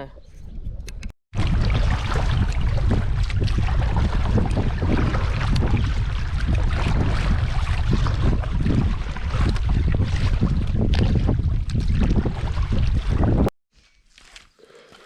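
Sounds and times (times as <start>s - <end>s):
water noise: 0.0s - 13.5s
wind buffeting microphone: 0.2s - 13.5s.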